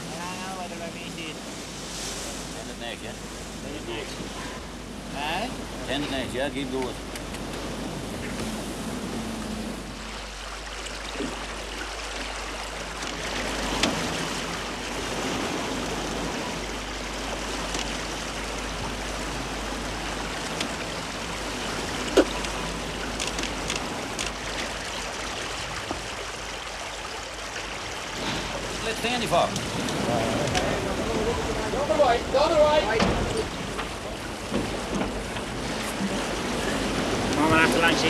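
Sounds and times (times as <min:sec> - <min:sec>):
water rushing along a hull: 0:00.0 - 0:38.0.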